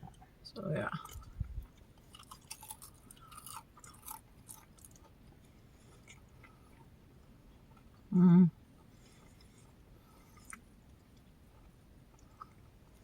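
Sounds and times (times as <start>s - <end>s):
chewing food: 1.0s - 8.1s, 8.7s - 13.0s.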